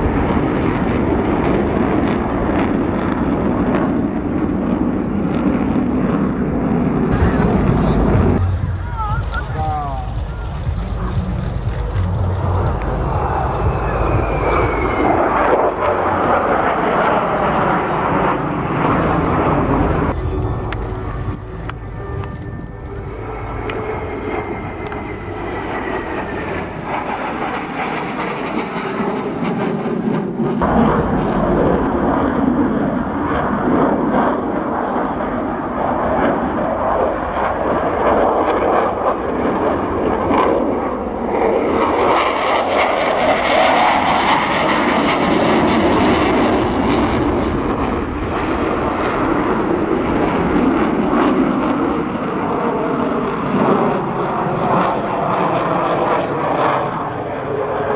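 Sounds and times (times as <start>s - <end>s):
jet fighter engines roaring: 0.0s - 57.9s.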